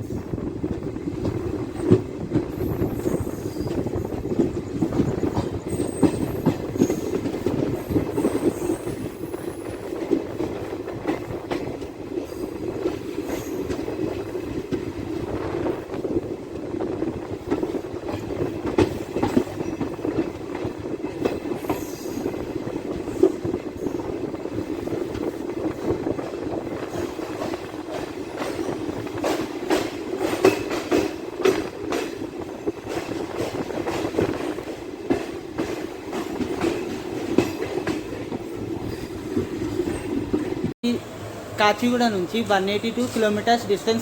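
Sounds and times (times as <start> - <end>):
train rumbling along track: 0.0 - 44.0
wheels clicking over rail joints: 0.6 - 15.1, 16.0 - 40.7.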